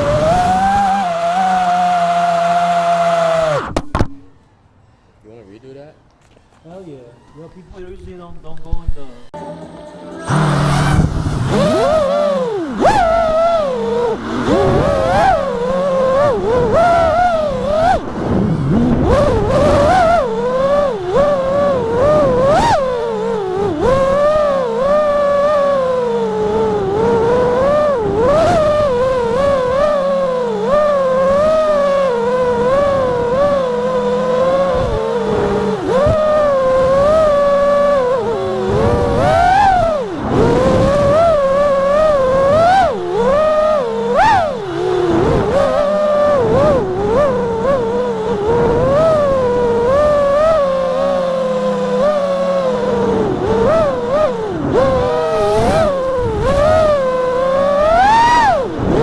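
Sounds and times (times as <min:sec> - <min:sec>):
quadcopter motors whining: 0:00.0 - 0:04.5, 0:08.6 - 0:59.0.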